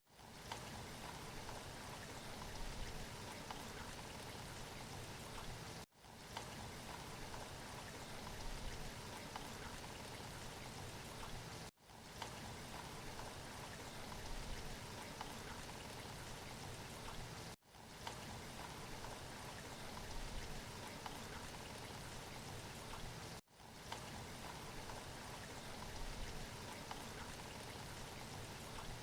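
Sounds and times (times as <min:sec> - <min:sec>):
steady rain falling: 0:00.1 - 0:29.0.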